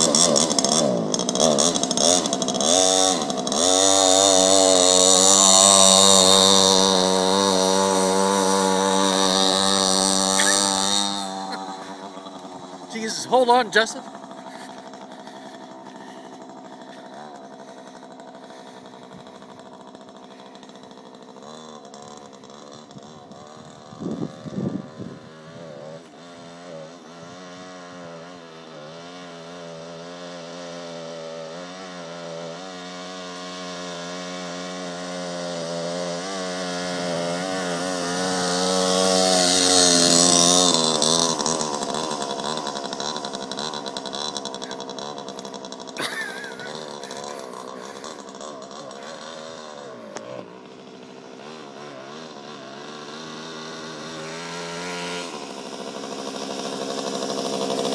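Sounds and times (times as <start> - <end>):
small motorbike engine buzzing: 0.0 - 57.9.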